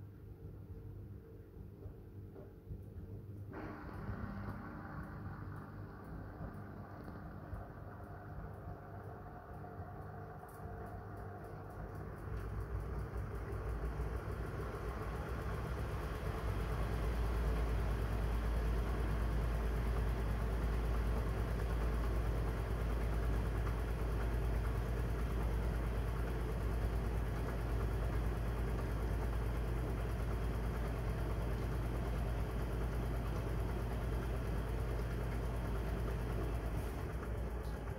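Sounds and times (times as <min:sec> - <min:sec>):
washing machine drum humming: 0:01.6 - 0:37.9.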